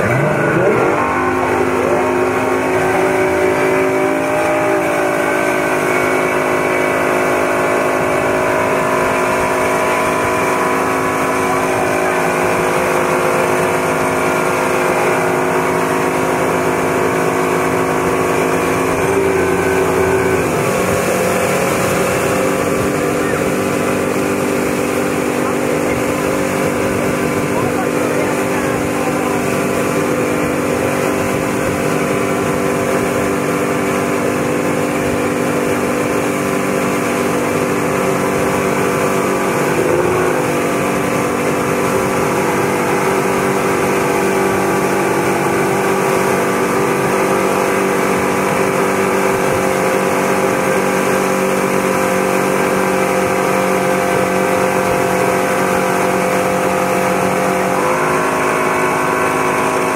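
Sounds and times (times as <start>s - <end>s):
motorboat engine running: 0.0s - 59.9s
rush of boat wake: 0.0s - 59.9s.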